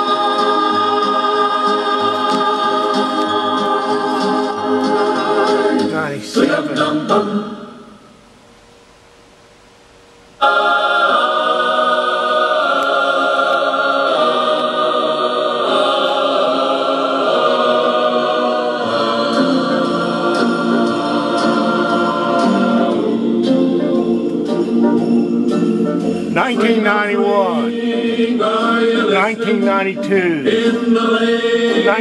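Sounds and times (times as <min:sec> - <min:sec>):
choir singing held chords: 0:00.0 - 0:08.2, 0:10.4 - 0:32.0.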